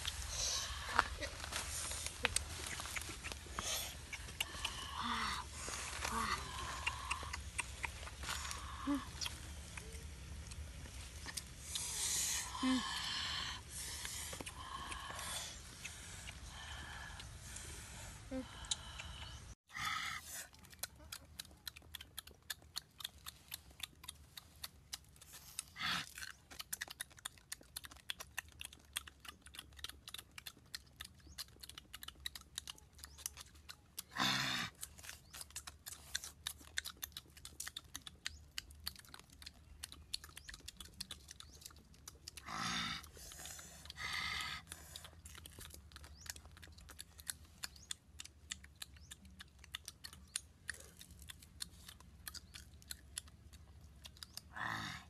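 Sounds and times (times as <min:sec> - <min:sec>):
chewing and crunching: 0:00.0 - 0:55.0.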